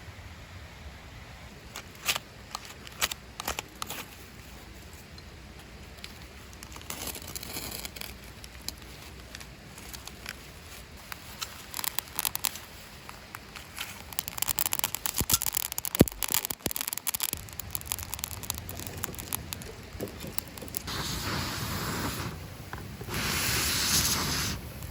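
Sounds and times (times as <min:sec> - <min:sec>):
campfire crackling: 0:01.4 - 0:24.9
kindling rustling and scraping: 0:01.7 - 0:24.6.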